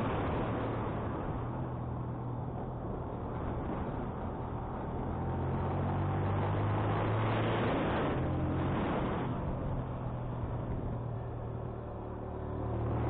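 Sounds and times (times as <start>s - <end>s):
wind noise on microphone: 0.0s - 11.2s.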